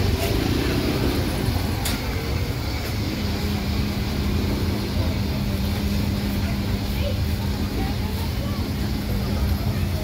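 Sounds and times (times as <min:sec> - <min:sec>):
traffic rumble: 0:00.0 - 0:10.0.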